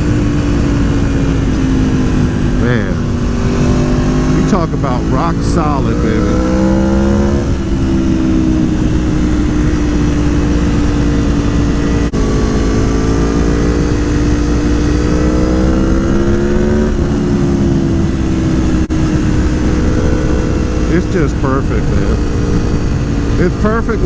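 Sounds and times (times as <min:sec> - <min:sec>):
wind noise rushing: 0:00.0 - 0:24.0.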